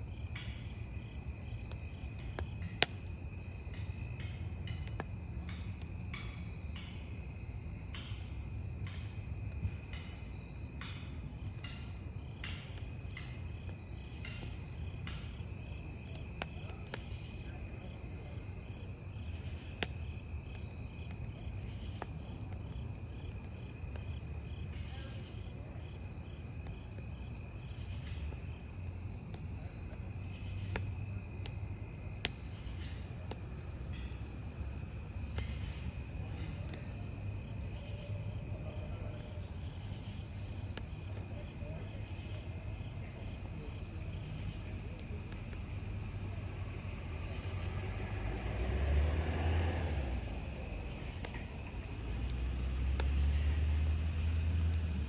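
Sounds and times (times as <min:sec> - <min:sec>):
campfire crackling and popping: 0:00.0 - 0:55.0
crickets chirping: 0:00.0 - 0:55.0.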